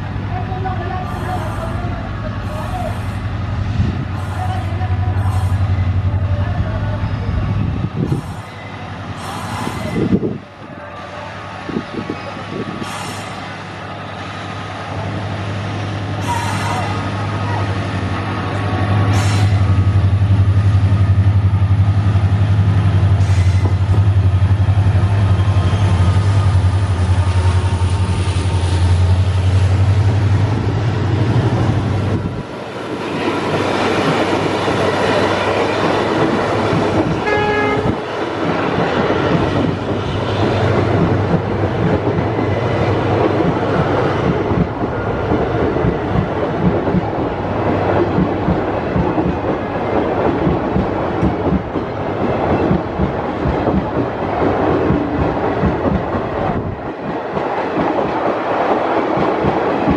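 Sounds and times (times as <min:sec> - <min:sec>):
diesel locomotive engine drone: 0:00.0 - 0:59.9
train coaches rattling past: 0:00.0 - 0:59.9.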